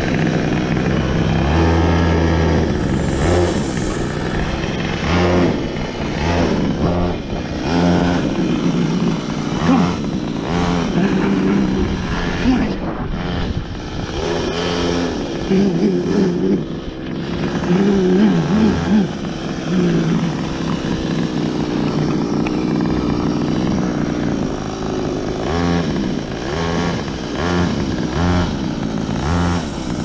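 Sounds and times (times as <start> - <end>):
go-kart engine revving: 0.0 - 30.0.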